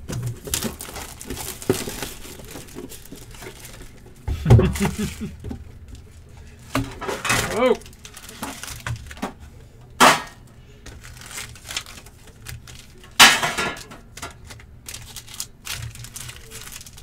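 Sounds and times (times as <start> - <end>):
wrappers and tin clicking: 0.0 - 5.3, 6.7 - 9.4, 10.0 - 17.0.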